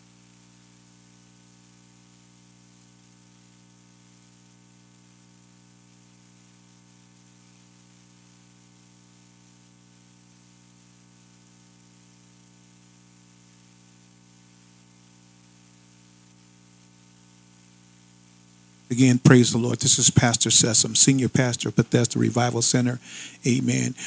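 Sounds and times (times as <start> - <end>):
faint electrical hum with hiss: 0.0 - 24.0.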